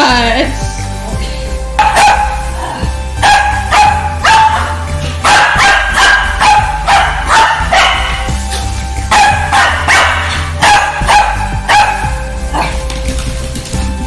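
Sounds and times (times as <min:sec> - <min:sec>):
background music: 0:00.0 - 0:14.0
dog barking: 0:01.8 - 0:13.5.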